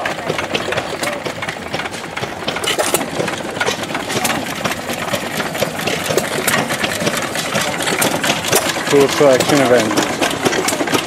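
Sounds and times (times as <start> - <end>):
stationary engines running: 0.0 - 11.0.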